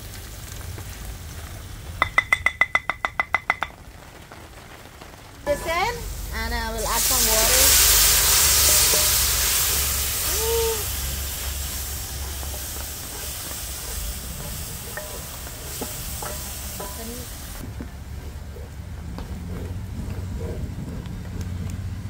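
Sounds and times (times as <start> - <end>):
hot oil hissing and sizzling: 0.0 - 18.8.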